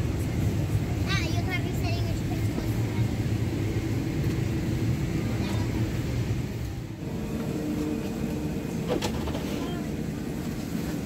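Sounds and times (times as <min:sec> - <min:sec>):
airplane cabin hum: 0:00.0 - 0:11.0
faint passenger voices: 0:00.0 - 0:11.0.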